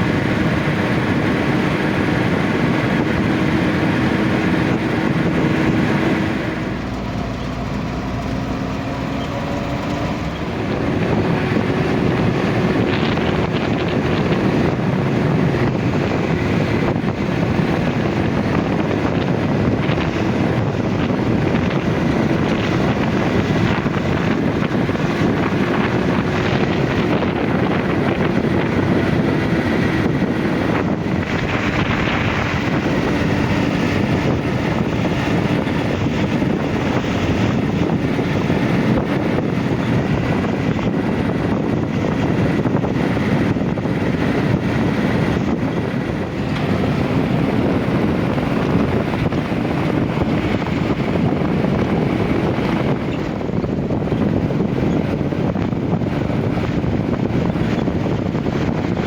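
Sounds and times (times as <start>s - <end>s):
road noise: 0.0s - 59.0s
vehicle engine running: 0.0s - 59.0s
wind noise: 0.0s - 59.0s.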